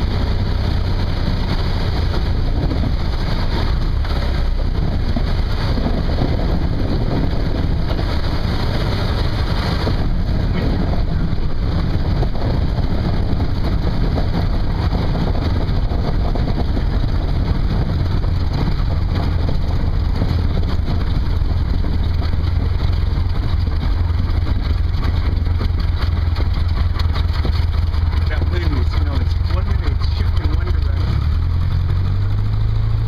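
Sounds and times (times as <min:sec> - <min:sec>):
small plane engine droning: 0:00.0 - 0:33.0.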